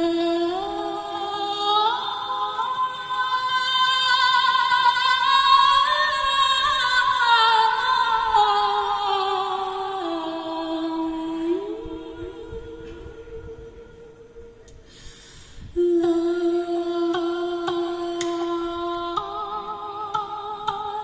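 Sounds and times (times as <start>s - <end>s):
woman singing wordless long notes: 0.0s - 21.0s.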